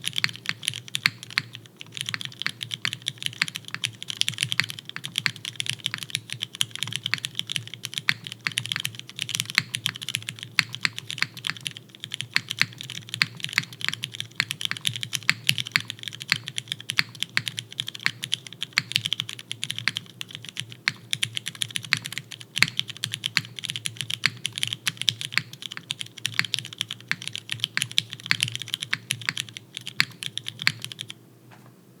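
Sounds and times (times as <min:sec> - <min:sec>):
typing on mechanical keyboard: 0:00.0 - 0:31.2.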